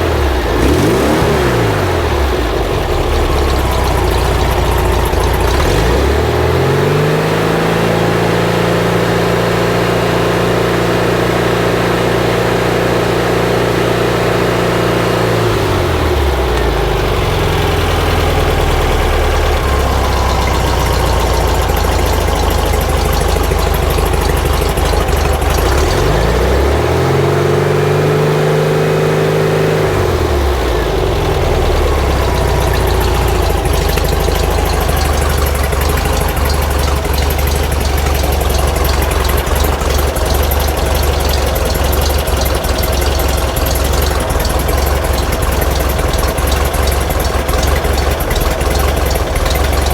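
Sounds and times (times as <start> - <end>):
engine revving and idling: 0.0 - 49.9.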